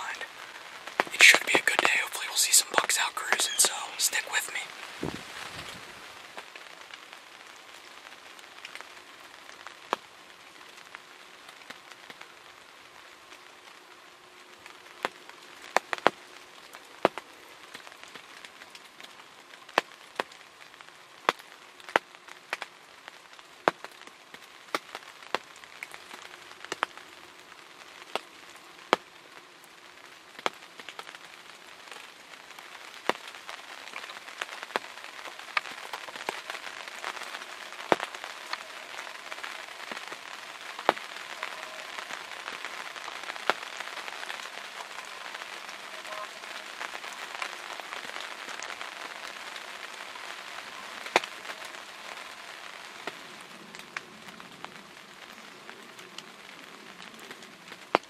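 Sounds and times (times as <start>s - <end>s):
raindrops tapping on blind: 0.0s - 13.4s, 14.6s - 58.0s
rain hiss: 0.0s - 58.0s.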